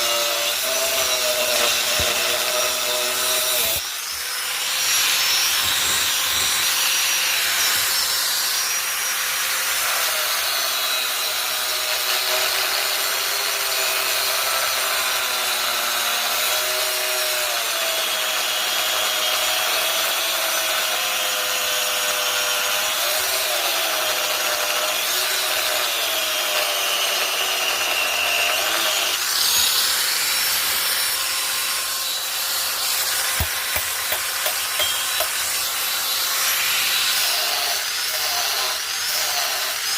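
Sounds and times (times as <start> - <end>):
power tool grinding steel: 0.0 - 39.9.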